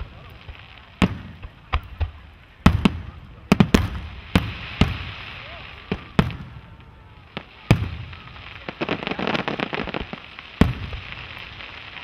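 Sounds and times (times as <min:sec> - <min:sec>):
firework booms: 0:00.0 - 0:12.0
firework crackling: 0:00.0 - 0:12.0.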